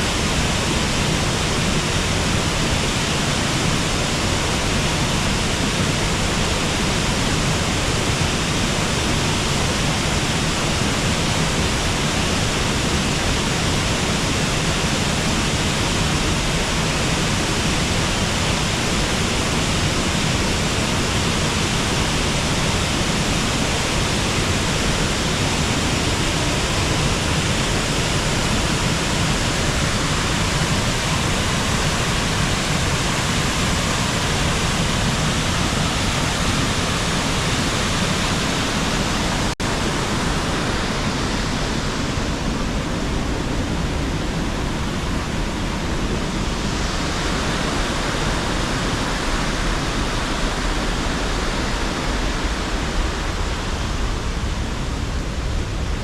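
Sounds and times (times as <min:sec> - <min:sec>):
waterfall and river rushing: 0:00.0 - 0:56.0.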